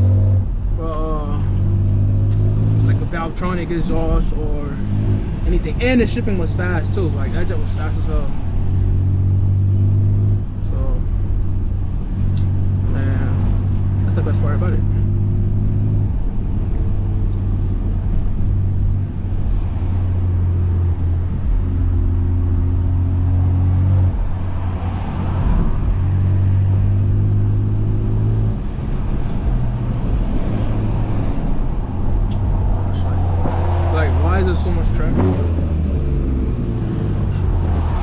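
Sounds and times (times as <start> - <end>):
car engine deep drone: 0.0 - 38.0.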